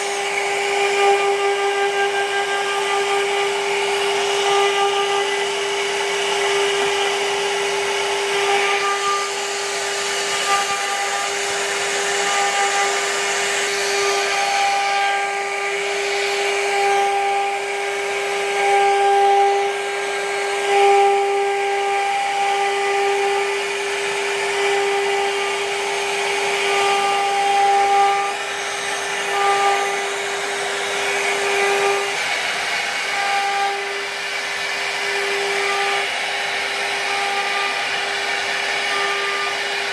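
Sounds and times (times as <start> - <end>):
hiss of wood being cut: 0.0 - 39.9
router spindle high whine: 0.0 - 39.9.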